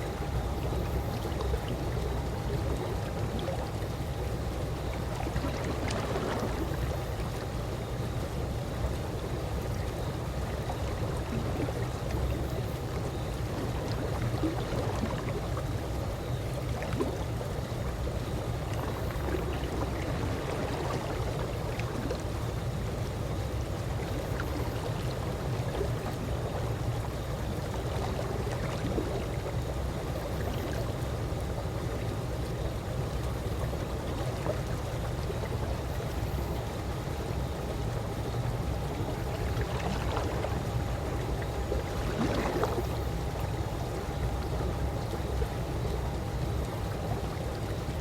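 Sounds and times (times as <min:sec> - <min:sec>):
small water splashes: 0:00.0 - 0:08.0, 0:08.7 - 0:48.0
pool water lapping: 0:00.0 - 0:48.0.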